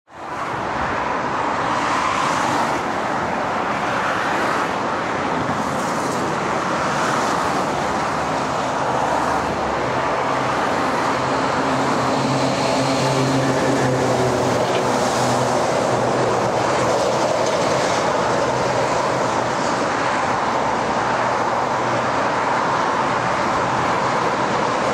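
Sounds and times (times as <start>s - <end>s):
cars passing: 0.1s - 24.9s.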